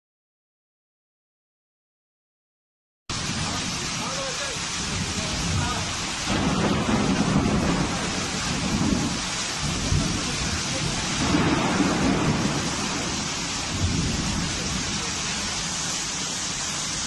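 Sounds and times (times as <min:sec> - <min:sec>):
floodwater rushing: 0:03.1 - 0:17.0
heavy rain: 0:03.1 - 0:17.0.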